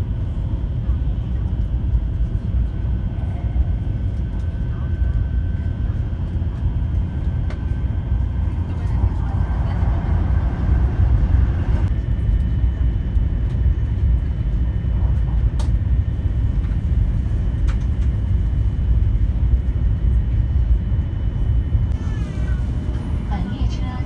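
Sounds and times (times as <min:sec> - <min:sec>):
train rumble inside cabin: 0:00.0 - 0:24.0.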